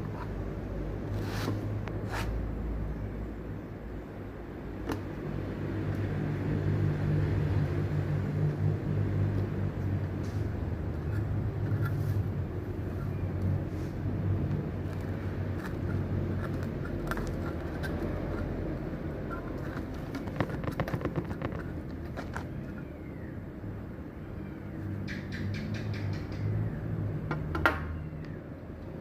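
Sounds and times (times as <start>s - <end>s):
low mechanical hum: 0.0s - 25.3s.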